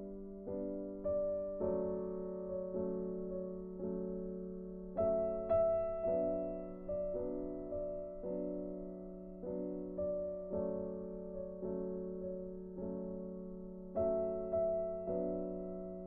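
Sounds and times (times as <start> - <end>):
gentle piano-like keyboard notes: 0.0 - 16.0.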